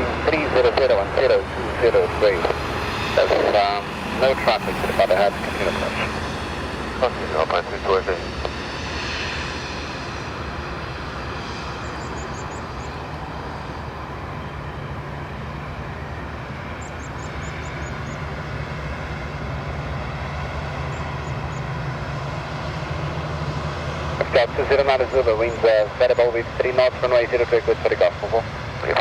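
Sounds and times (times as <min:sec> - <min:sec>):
jet engines running: 0:00.0 - 0:29.0.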